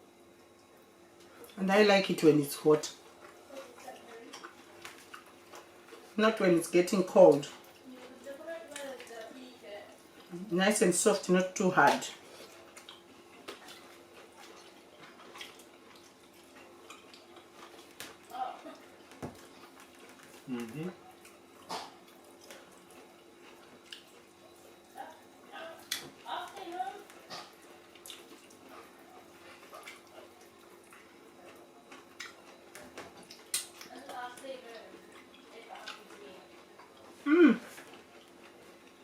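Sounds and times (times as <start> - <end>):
faint steady hum: 0.0 - 39.0
people chewing: 0.4 - 1.6, 2.8 - 6.2, 6.8 - 10.5, 11.1 - 39.0.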